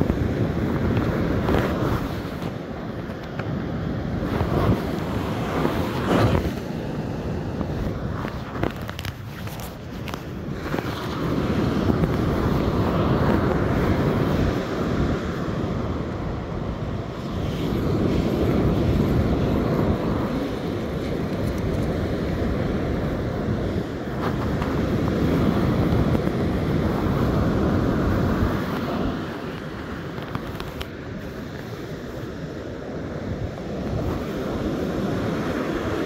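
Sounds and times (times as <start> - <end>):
breaking surf: 0.0 - 36.0
wind buffeting microphone: 0.0 - 36.0.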